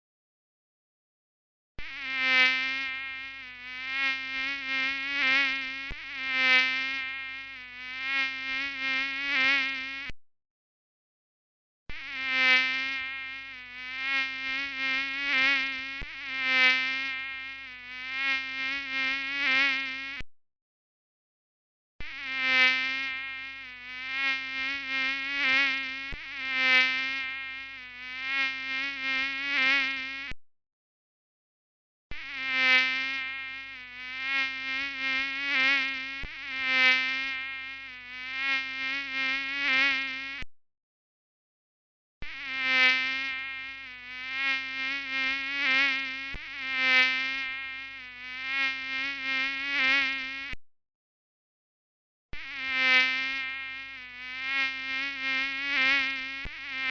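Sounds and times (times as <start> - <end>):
mosquito buzzing whine: 1.8 - 10.2, 11.9 - 20.3, 22.0 - 30.4, 32.1 - 40.5, 42.2 - 50.6, 52.3 - 56.9.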